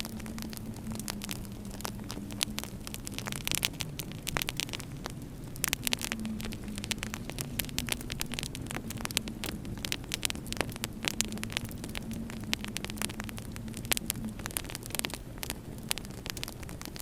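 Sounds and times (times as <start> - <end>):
faint hum: 0.0 - 17.0
wood fire crackling: 0.0 - 17.0.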